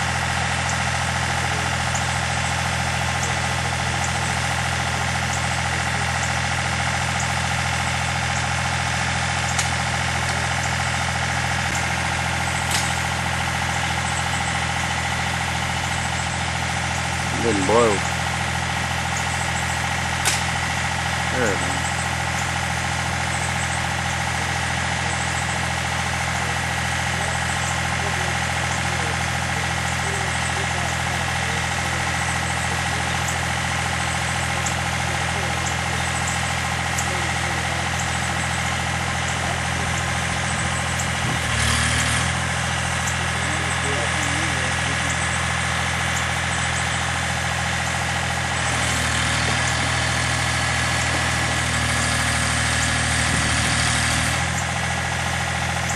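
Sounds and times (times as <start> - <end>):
vehicle engine idling: 0.0 - 55.9.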